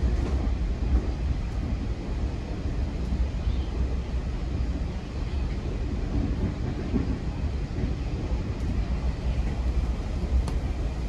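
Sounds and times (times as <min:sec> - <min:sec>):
low rumble of train wheels: 0:00.0 - 0:11.0.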